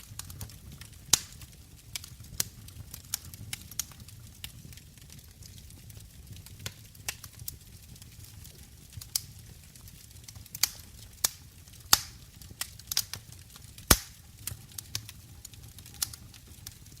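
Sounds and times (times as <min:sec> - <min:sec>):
low rumble of fire: 0:00.0 - 0:17.0
wood fire crackling: 0:00.0 - 0:17.0.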